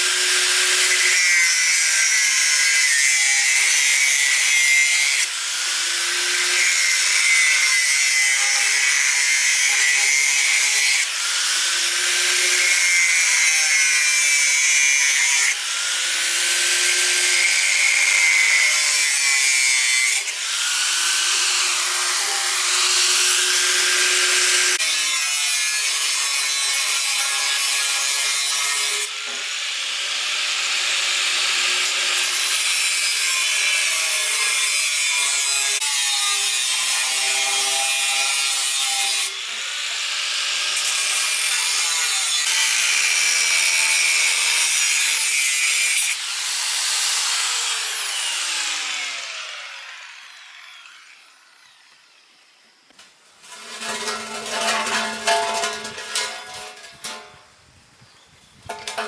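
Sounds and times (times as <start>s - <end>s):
power tool grinding iron bars: 0.0s - 57.6s, 58.6s - 59.0s.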